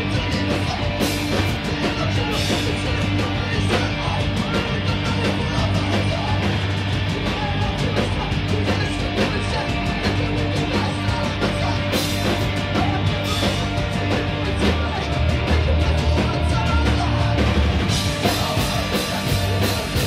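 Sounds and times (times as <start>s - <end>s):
bass: 0.0s - 20.0s
distorted electric guitar: 0.0s - 20.0s
drums and cymbal crashes: 0.0s - 20.0s.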